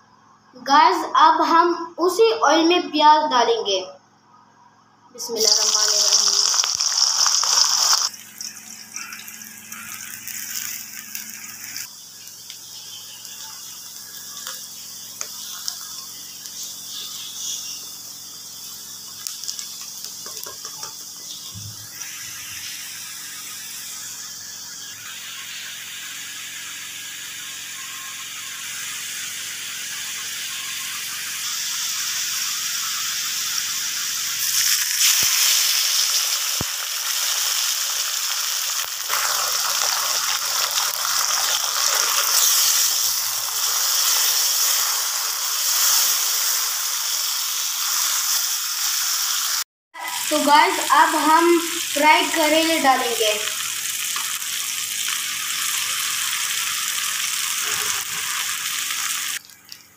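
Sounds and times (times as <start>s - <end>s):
onions sizzling in hot oil: 5.2s - 59.4s.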